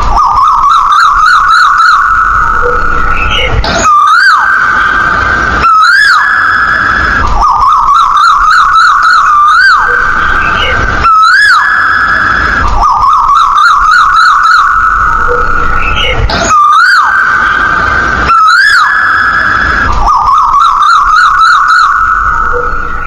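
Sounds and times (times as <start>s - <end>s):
steady held tone: 0.0s - 23.0s
whistled bird call ringtone: 0.0s - 23.0s.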